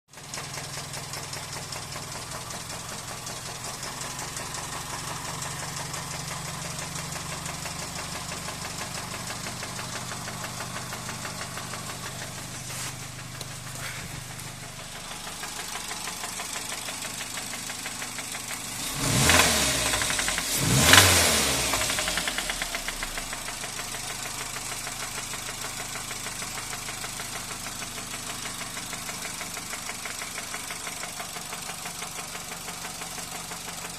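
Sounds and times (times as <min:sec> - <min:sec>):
car engine idling and revving: 0:00.2 - 0:33.9.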